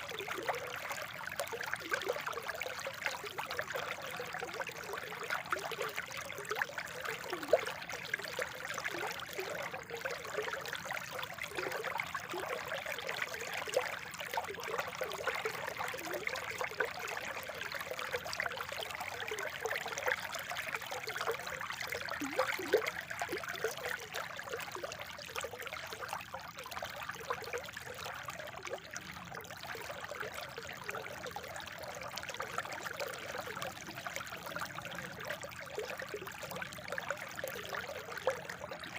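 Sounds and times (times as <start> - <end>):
water trickling over stones: 0.0 - 38.9.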